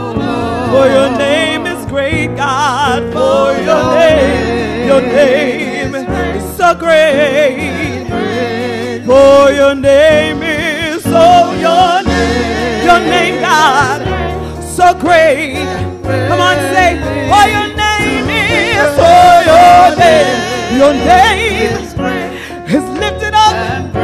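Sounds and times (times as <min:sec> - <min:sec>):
instrumental accompaniment with bass: 0:00.0 - 0:24.0
women singing gospel: 0:00.0 - 0:24.0.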